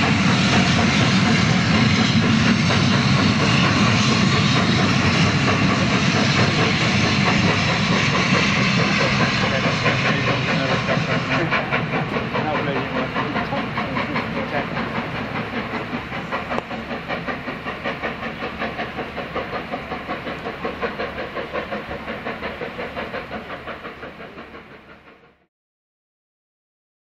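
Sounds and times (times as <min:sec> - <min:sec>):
steam hiss: 0:00.0 - 0:25.4
steam locomotive exhaust beat: 0:00.0 - 0:25.5.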